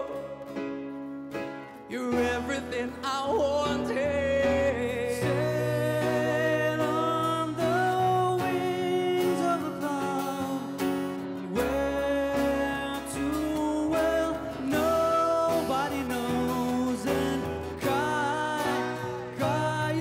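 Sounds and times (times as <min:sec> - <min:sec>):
bass: 0:00.0 - 0:20.0
guitar: 0:00.0 - 0:20.0
live band playing slow ballad: 0:00.0 - 0:20.0
person singing: 0:00.0 - 0:20.0.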